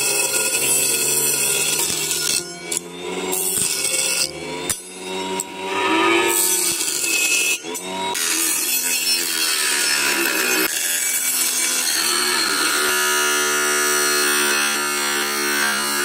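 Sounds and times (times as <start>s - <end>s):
electric motor whining: 0.0s - 16.0s
saw blade rasping through pipe: 0.0s - 16.0s.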